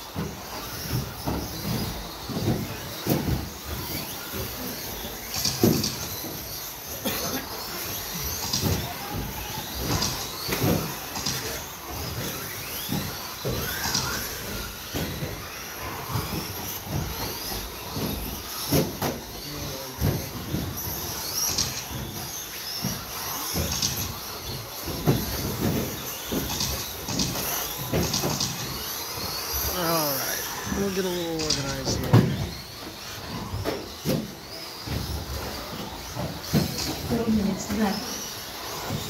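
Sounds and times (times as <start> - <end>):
electric motors whining: 0.0 - 39.0
sharp knocks and clatters: 0.0 - 39.0.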